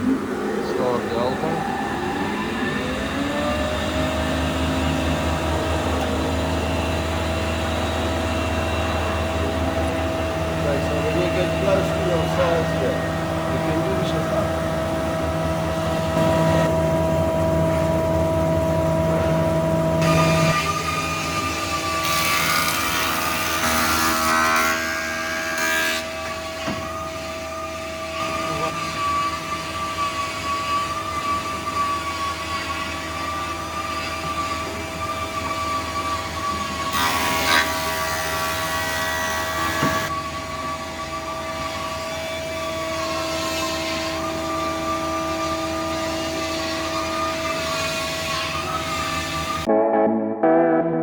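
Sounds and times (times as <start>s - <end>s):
thickness planer running: 0.0s - 49.7s.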